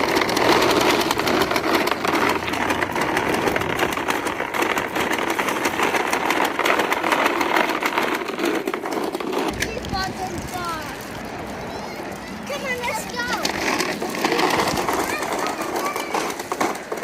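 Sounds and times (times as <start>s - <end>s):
toy lawn mower clattering clicks: 0.0s - 11.6s, 12.2s - 17.0s.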